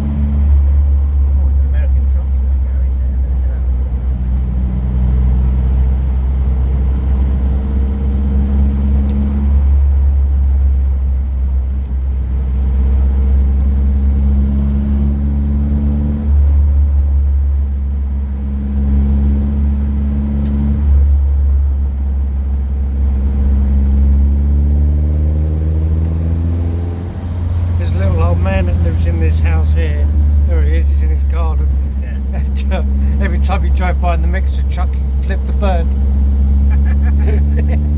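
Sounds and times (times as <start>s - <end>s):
car engine accelerating: 0.0s - 37.9s
road rumble inside car: 0.0s - 37.9s.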